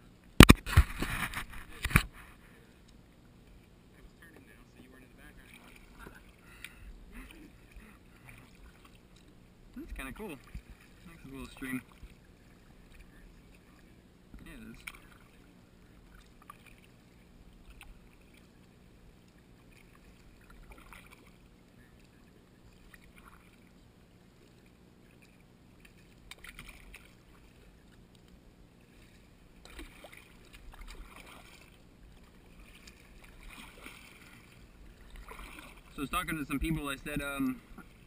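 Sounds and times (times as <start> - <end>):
steady low hum: 0.0 - 38.0
kayak paddle splashing: 0.2 - 3.8, 4.5 - 38.0.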